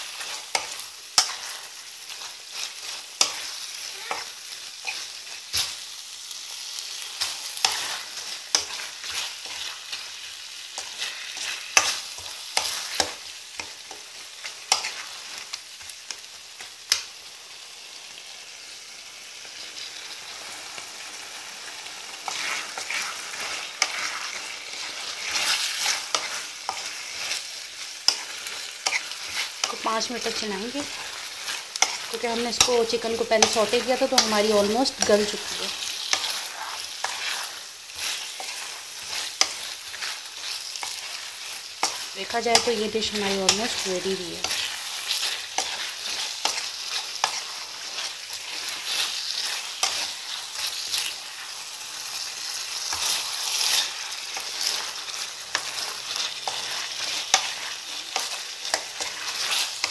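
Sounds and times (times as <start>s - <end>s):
metal spoon scraping a pan: 0.0s - 5.8s, 6.9s - 16.2s, 22.2s - 59.9s
sauce sizzling in a pan: 0.0s - 59.9s.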